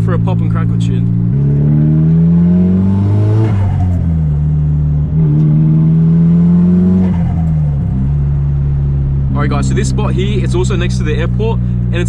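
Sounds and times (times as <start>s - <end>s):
turbo car engine accelerating: 0.0s - 12.0s.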